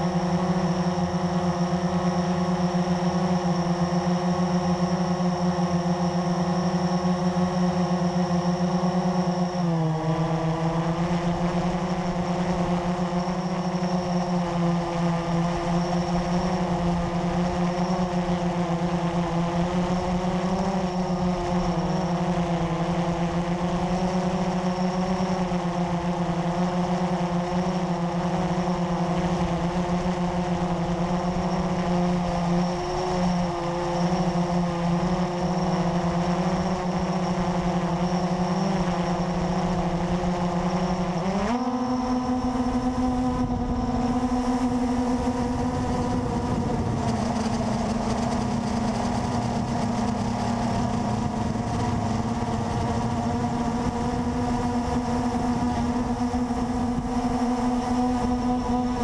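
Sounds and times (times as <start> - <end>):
drone motors and propellers humming: 0.0 - 59.0.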